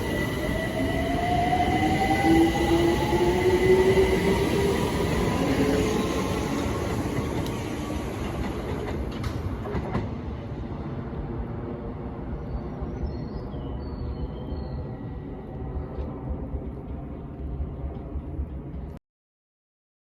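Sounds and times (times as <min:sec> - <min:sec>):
train wheels rumbling: 0:00.0 - 0:13.2, 0:14.8 - 0:19.0.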